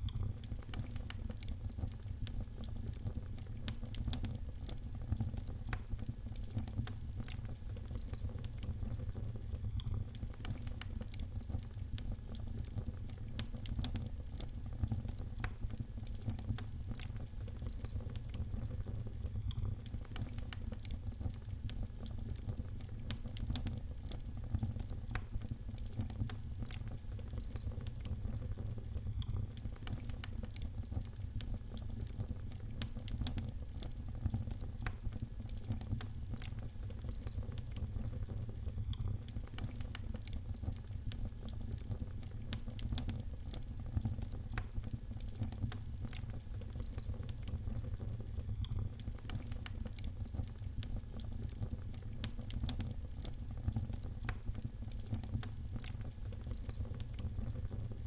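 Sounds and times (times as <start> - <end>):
fire crackling in fireplace: 0.0 - 58.0.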